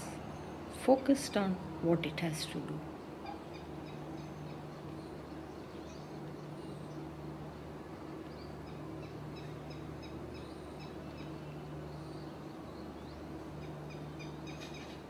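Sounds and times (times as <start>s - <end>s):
background traffic hum: 0.0s - 15.0s
small birds chirping: 2.9s - 15.0s.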